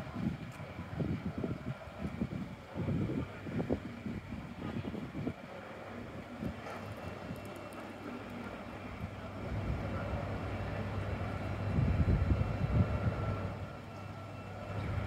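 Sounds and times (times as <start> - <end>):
faint engine whine: 0.0 - 15.0
bus diesel engine idling: 2.6 - 15.0.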